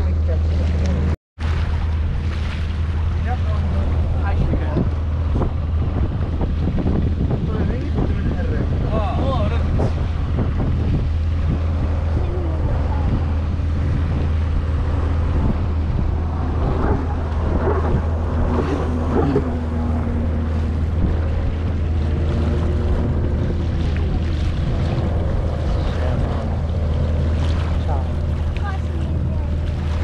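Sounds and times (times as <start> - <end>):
boat engine droning: 0.0 - 30.0
water washing past hull: 0.0 - 30.0
wind buffeting microphone: 0.0 - 30.0.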